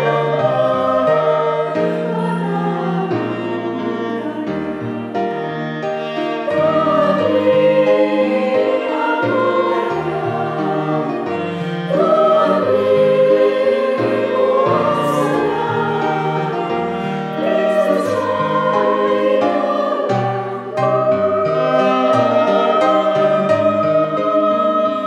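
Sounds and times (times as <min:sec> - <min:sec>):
cello and violin: 0:00.0 - 0:25.0
choir singing a hymn: 0:00.0 - 0:25.0.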